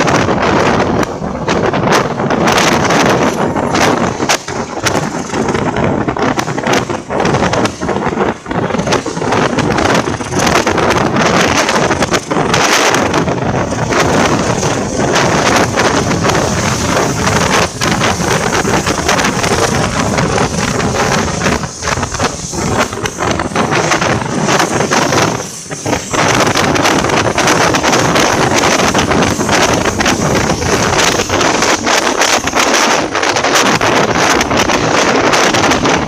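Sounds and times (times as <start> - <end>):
train rumble: 0.0 - 36.0
wheels clattering on rails: 0.0 - 36.0
wind buffeting microphone: 0.0 - 36.0.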